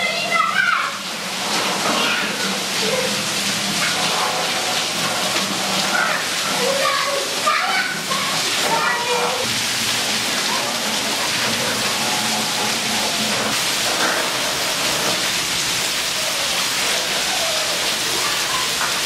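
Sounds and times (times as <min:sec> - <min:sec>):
heavy rain splashing on paving: 0:00.0 - 0:19.0.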